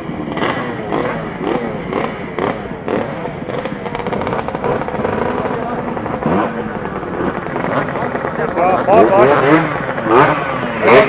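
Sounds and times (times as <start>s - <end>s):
two-stroke motorcycle engines revving: 0.0s - 11.0s.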